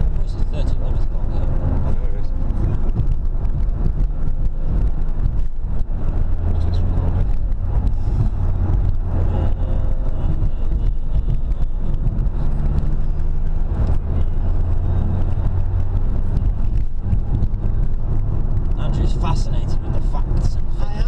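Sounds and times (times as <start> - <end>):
car engine running: 0.0 - 21.0
tyre and road noise: 0.0 - 21.0.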